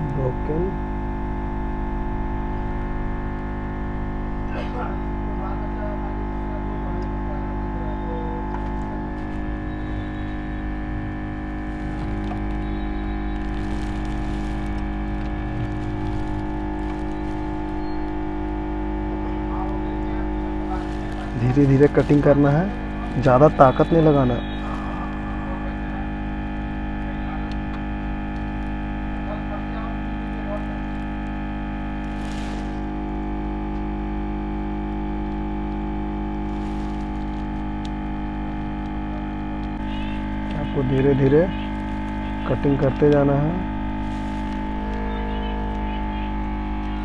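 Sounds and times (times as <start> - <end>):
machine electric hum: 0.0 - 47.0.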